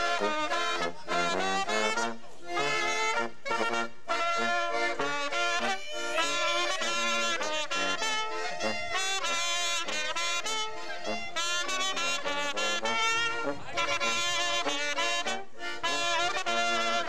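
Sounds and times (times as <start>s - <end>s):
accordion: 0.0s - 17.0s
clarinet: 0.0s - 17.0s
large brass horn: 0.0s - 17.0s
trumpet: 0.0s - 17.0s.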